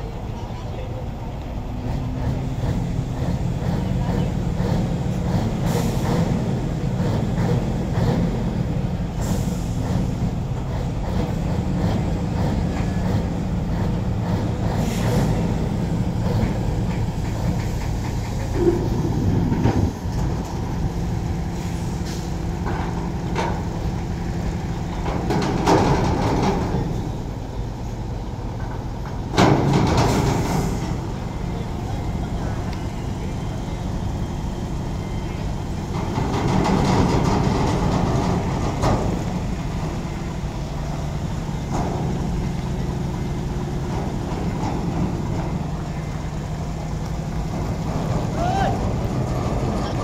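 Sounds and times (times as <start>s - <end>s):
diesel engines idling: 0.0s - 50.0s.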